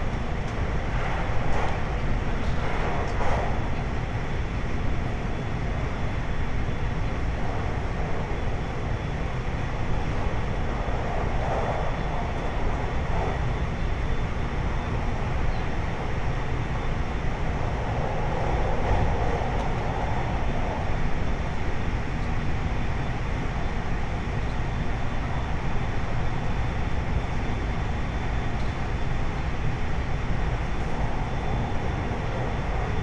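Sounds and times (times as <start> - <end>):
train wheels rumbling on rail: 0.0 - 26.6.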